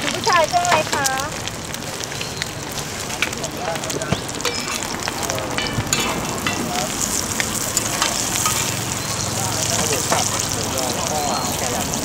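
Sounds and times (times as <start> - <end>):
omelets sizzling in hot oil: 0.0 - 12.0.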